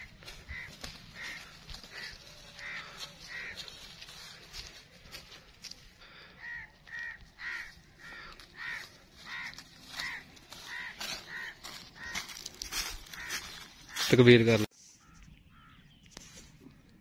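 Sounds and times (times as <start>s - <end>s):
bird calling: 0.0s - 5.4s, 6.0s - 16.2s.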